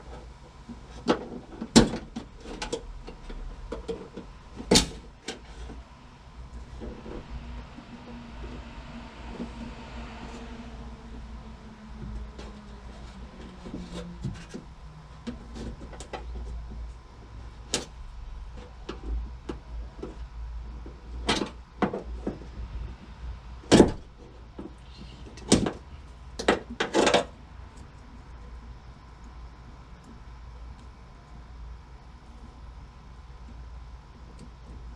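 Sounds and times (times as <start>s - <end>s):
low steady rumble: 0.0s - 34.9s.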